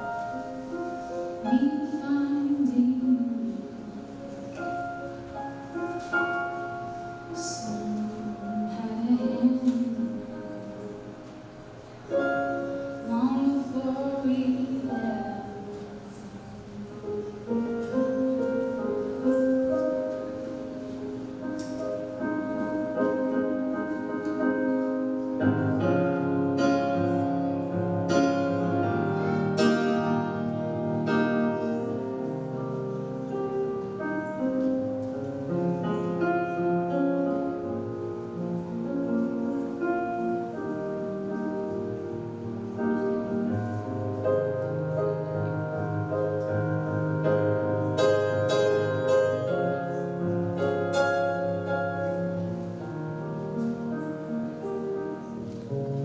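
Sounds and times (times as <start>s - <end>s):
slow piano processional music: 0.0s - 56.0s.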